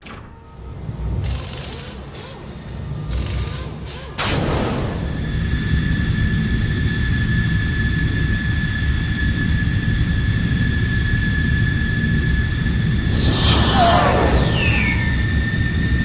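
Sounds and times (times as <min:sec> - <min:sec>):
jet engine rumble and whine: 0:00.0 - 0:16.0.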